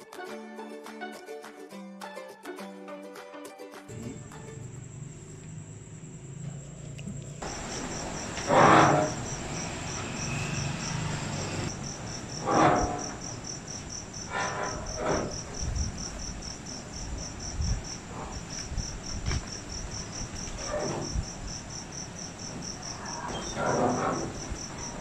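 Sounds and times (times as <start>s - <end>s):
crickets chirping: 3.9s - 25.0s
high insect trill: 3.9s - 25.0s.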